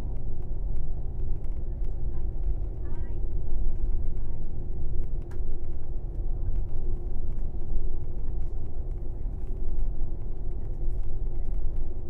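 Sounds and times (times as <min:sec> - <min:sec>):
coach engine and road rumble: 0:00.0 - 0:12.0
constant hum: 0:00.0 - 0:12.0.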